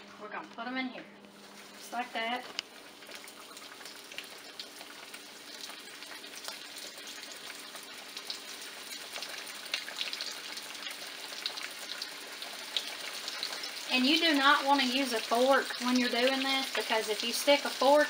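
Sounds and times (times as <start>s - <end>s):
fish frying in hot oil: 1.3s - 18.0s.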